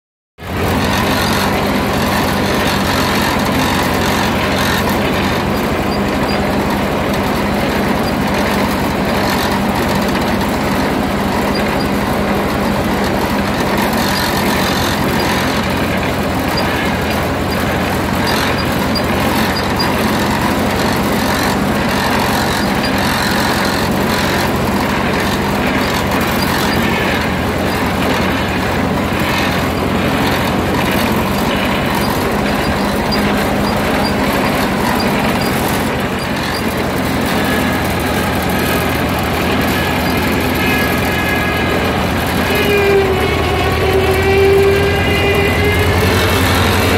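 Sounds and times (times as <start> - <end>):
tractor engine running: 0.4 - 46.9.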